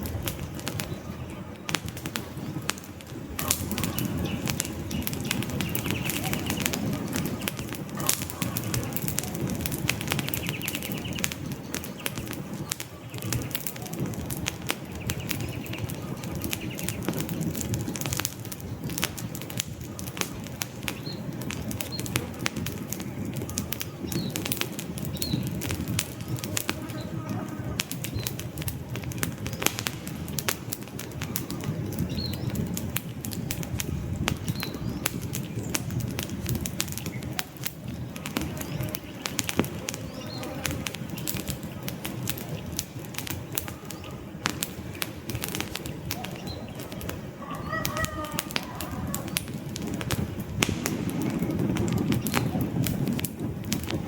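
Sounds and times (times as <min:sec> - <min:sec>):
campfire crackling: 0:00.0 - 0:54.0
low rumble of flames: 0:00.0 - 0:54.0.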